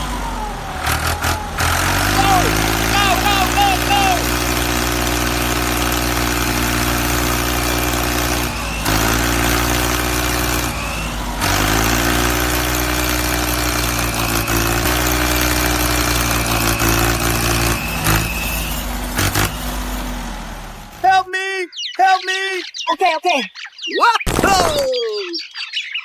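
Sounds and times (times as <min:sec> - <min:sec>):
vehicle engine running hard: 0:00.0 - 0:21.1.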